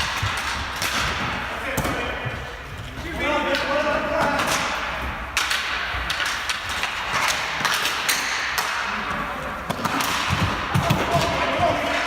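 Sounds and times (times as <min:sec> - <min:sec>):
sticks and ball clacking: 0:00.0 - 0:02.1, 0:03.4 - 0:12.0
players' voices: 0:00.0 - 0:12.0.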